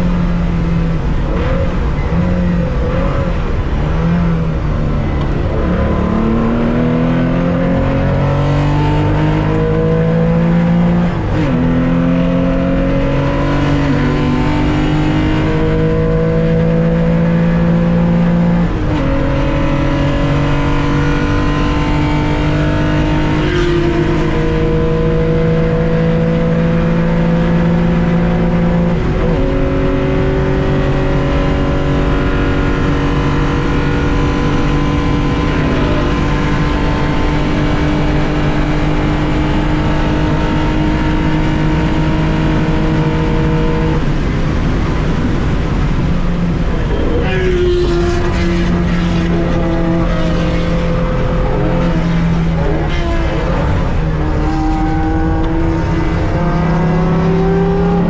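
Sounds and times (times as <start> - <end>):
car engine at full throttle: 0.0 - 58.0.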